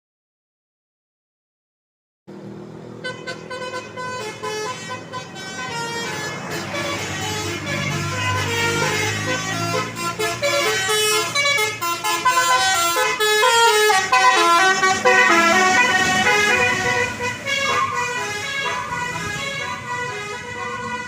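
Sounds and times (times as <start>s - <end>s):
multi-tone air horns melody: 3.0s - 21.0s.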